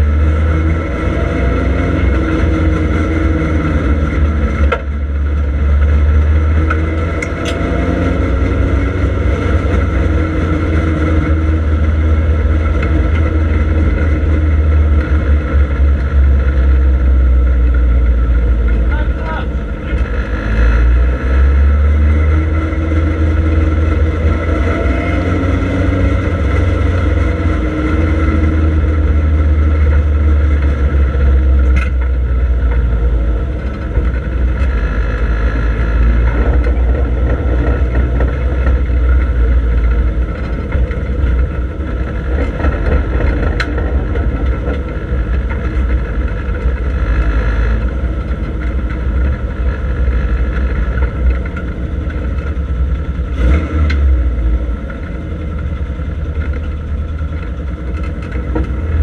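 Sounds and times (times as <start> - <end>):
car engine low rumble: 0.0 - 59.0.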